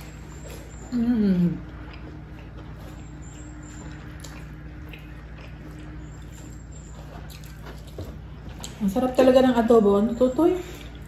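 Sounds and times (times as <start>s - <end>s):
faint eating clicks: 0.0s - 11.0s
quiet chewing: 0.0s - 11.0s
steady low hum: 0.0s - 11.0s.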